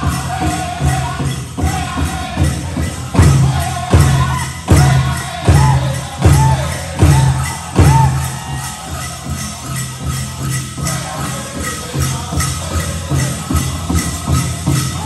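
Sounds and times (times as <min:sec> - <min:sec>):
bells jingling: 0:00.0 - 0:15.0
big drum beat: 0:00.0 - 0:15.0
drum group singing: 0:00.0 - 0:15.0.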